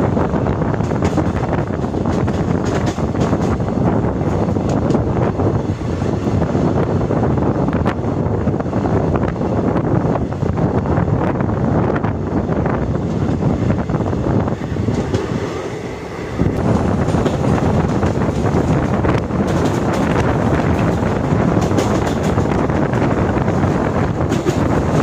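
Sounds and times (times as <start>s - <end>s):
train clatter: 0.0s - 25.0s
train wheels rumbling on rails: 0.0s - 25.0s
wind buffeting microphone: 0.0s - 25.0s.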